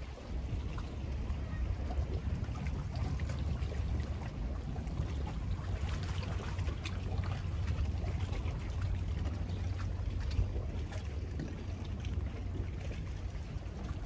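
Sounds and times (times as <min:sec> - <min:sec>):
faint water sounds: 0:00.0 - 0:14.0
low rumble: 0:00.0 - 0:14.0.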